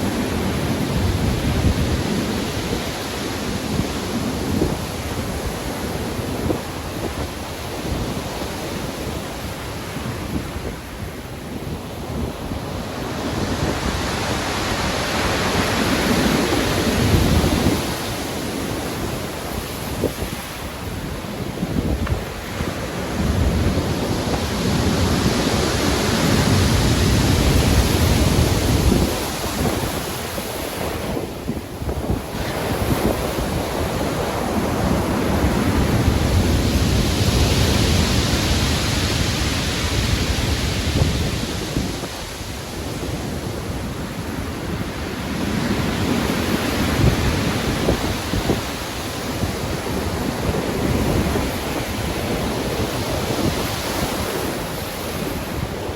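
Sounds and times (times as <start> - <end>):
ocean waves breaking: 0.0 - 55.9
wind: 0.0 - 55.9.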